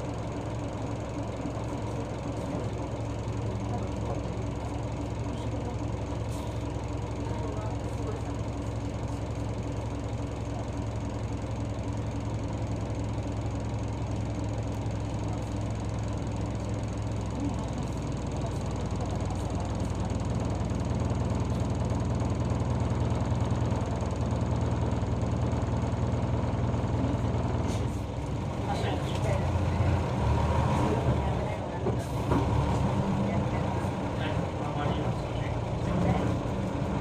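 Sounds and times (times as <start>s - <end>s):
diesel bus engine idling: 0.0s - 37.0s.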